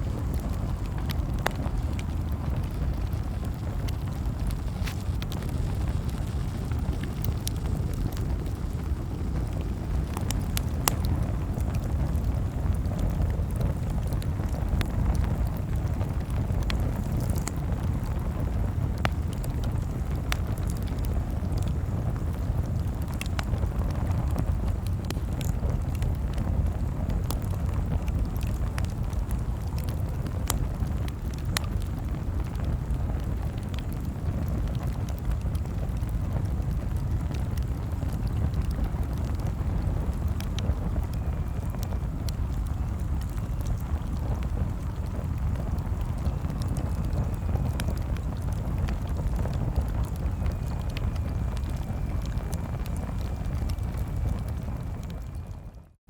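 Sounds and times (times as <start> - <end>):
campfire crackling: 0.0 - 55.8.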